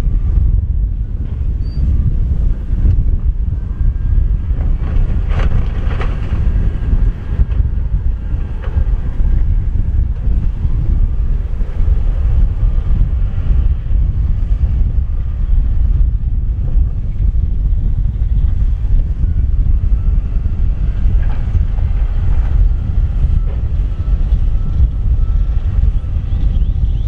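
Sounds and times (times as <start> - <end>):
heavy diesel engines rumbling: 0.0 - 27.0.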